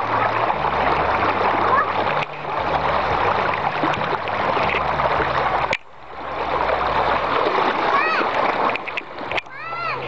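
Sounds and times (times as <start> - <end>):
floodwater rushing and splashing: 0.0 - 10.0.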